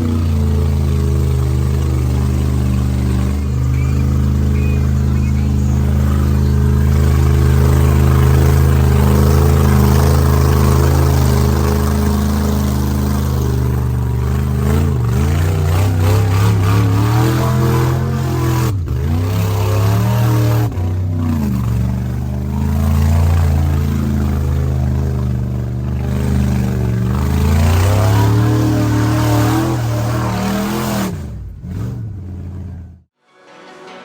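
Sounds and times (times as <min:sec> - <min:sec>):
large vehicle engine revving: 0:00.0 - 0:33.1.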